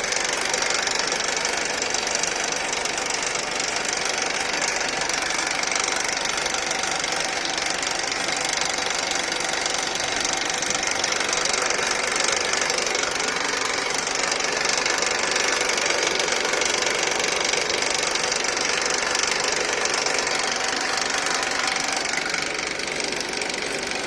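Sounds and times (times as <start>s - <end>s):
car engine rattling: 0.0s - 24.0s.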